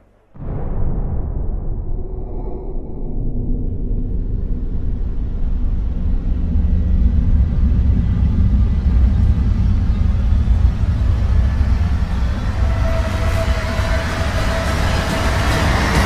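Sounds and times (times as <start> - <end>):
deep rumble: 0.0 - 16.0.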